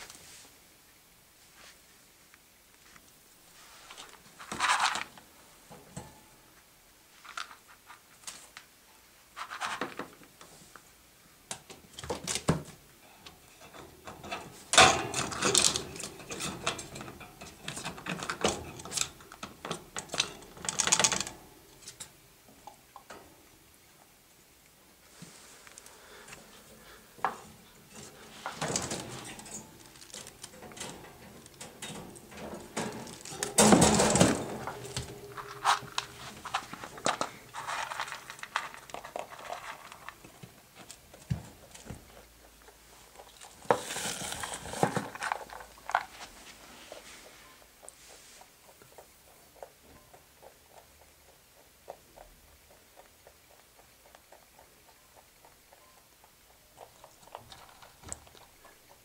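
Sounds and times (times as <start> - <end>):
rabbit crunching food: 2.8 - 5.3, 6.5 - 10.8, 13.3 - 59.0.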